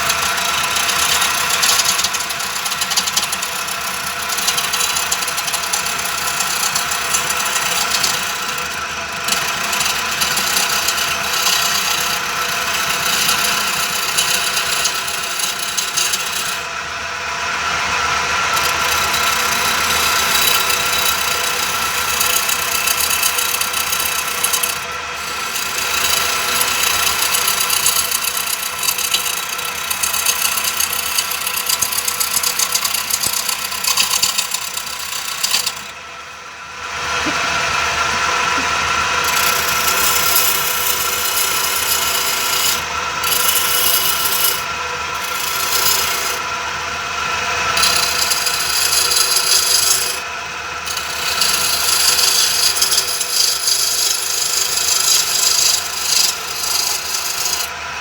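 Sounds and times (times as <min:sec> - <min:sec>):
chisel scraping spinning wood: 0:00.0 - 0:36.2, 0:36.8 - 0:58.0
wood lathe motor humming: 0:00.0 - 0:58.0.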